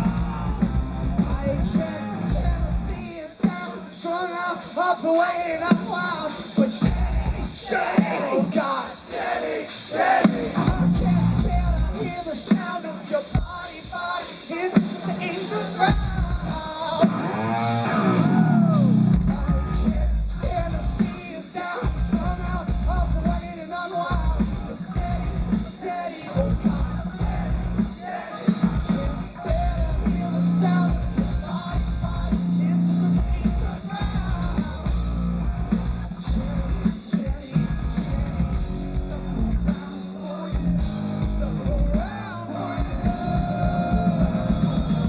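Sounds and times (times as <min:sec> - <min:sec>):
live hard rock band: 0:00.0 - 0:45.0.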